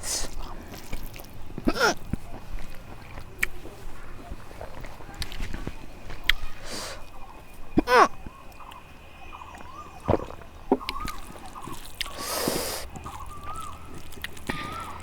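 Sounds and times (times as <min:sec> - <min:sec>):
eating clicks: 0:00.0 - 0:15.0
noisy slurp: 0:00.0 - 0:15.0
bird chirps: 0:02.2 - 0:15.0.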